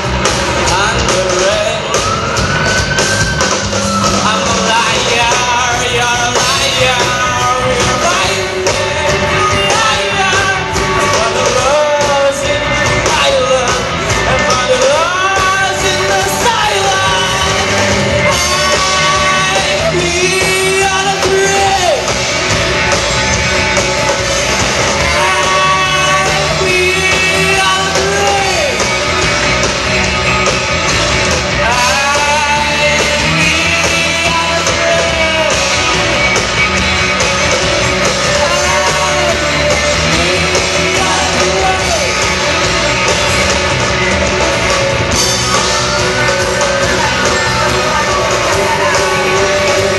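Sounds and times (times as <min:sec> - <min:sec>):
rock band playing live: 0:00.0 - 0:49.9
person singing: 0:00.6 - 0:03.0, 0:03.7 - 0:22.3, 0:24.9 - 0:29.2, 0:31.5 - 0:36.6, 0:37.6 - 0:43.6, 0:44.6 - 0:49.9.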